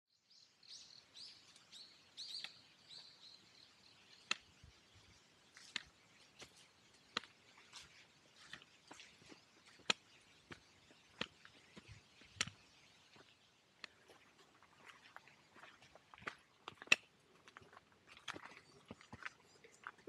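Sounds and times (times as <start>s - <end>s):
small birds chirping: 0.1s - 20.0s.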